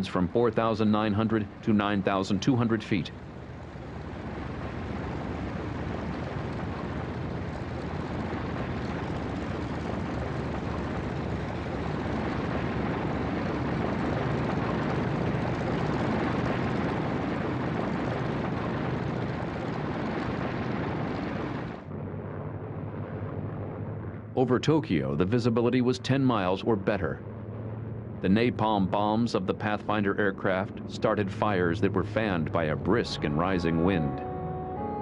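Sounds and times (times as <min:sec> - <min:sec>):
propeller aircraft engines droning: 0:00.0 - 0:35.0.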